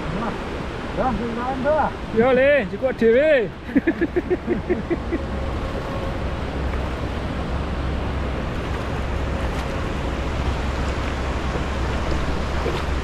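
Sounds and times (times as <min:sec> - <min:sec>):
river water rushing over stones: 0:00.0 - 0:13.0
wind rumbling on microphone: 0:00.0 - 0:13.0.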